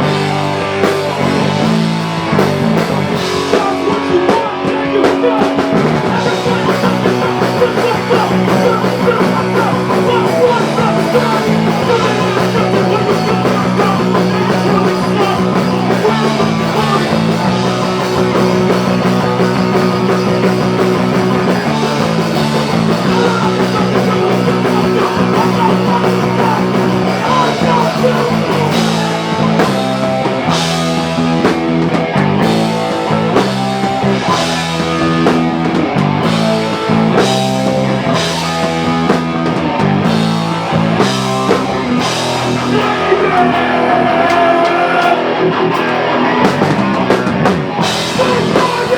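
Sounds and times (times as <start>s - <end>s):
bass line: 0.0s - 48.9s
drums: 0.0s - 48.9s
electric guitar: 0.0s - 48.9s
punk rock band playing: 0.0s - 48.9s.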